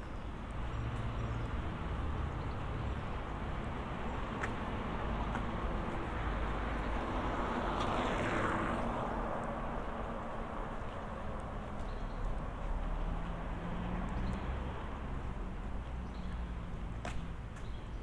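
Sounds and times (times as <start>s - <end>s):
low rumble of city traffic: 0.0s - 18.0s
car passing: 0.9s - 11.5s, 12.5s - 16.9s.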